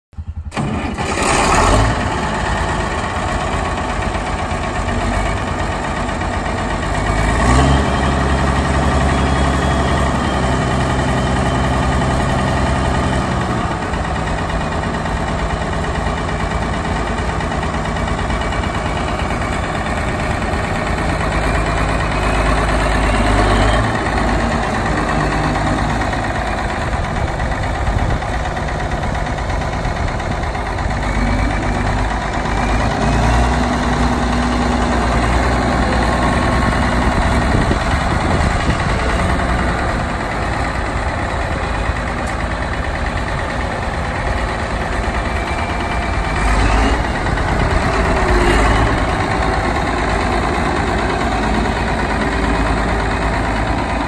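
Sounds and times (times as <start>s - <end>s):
diesel tractor engine running: 0.2s - 54.0s.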